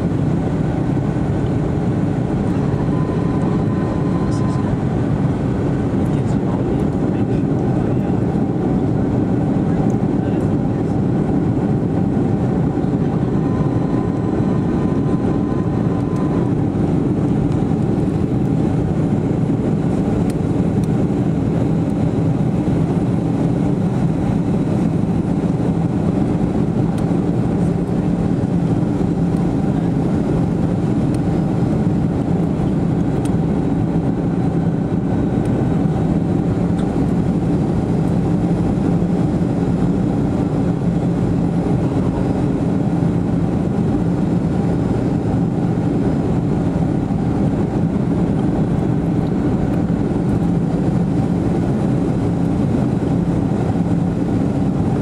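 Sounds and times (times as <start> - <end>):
jet engines roaring in cabin: 0.0 - 55.0.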